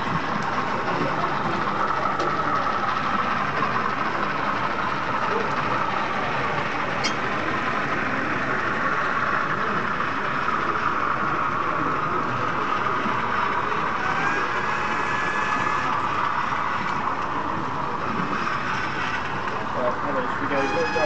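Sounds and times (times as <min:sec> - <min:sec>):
indistinct visitor chatter: 0:00.0 - 0:21.0.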